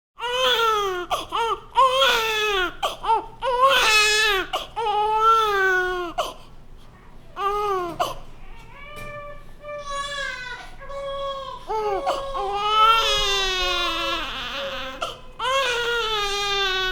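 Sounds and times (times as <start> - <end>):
newborn baby crying: 0.2 - 6.5, 7.4 - 16.9.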